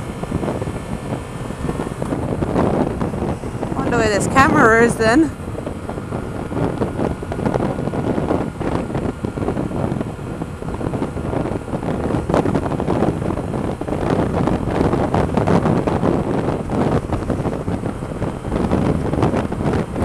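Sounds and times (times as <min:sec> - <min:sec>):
road and engine noise: 0:00.0 - 0:20.0
wind buffeting microphone: 0:00.0 - 0:20.0.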